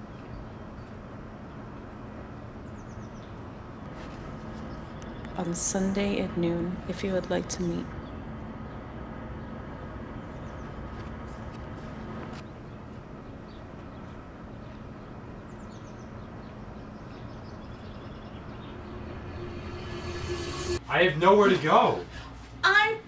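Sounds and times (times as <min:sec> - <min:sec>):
distant traffic hum: 0:00.0 - 0:21.9.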